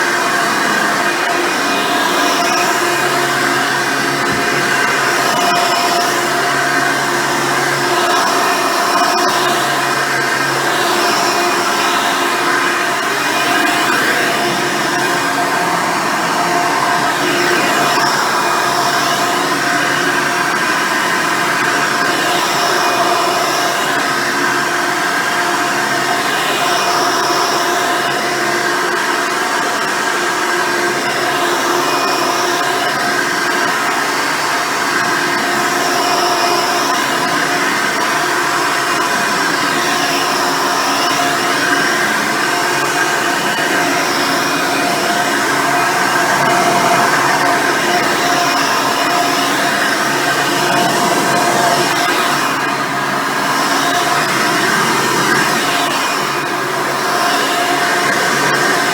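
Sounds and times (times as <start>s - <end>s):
vacuum cleaner running on carpet: 0.0s - 58.9s.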